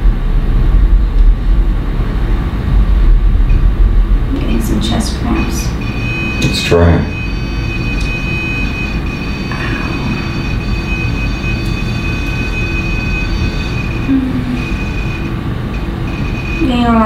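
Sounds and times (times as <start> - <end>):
high-pitched whine: 0.0 - 17.0
low rumble: 0.0 - 17.0.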